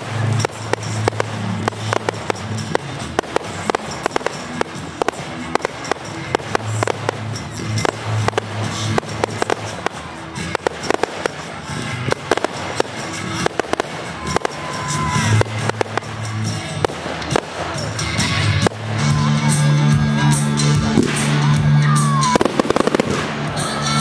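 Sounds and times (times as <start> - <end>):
background music: 0.0 - 24.0
fireworks bangs and pops: 0.0 - 24.0.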